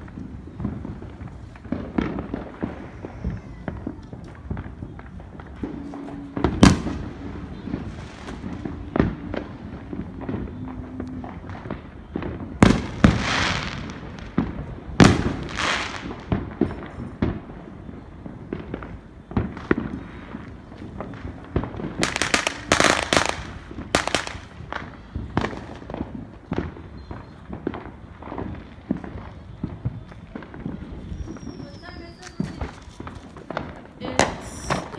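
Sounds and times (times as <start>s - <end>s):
fireworks banging and crackling: 0.0s - 34.9s.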